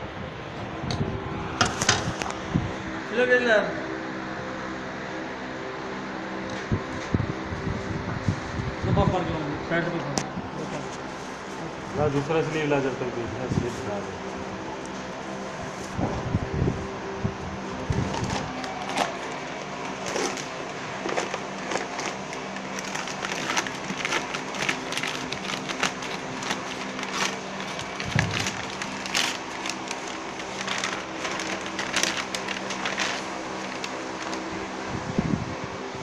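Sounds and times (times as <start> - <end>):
fan humming: 0.0 - 36.0.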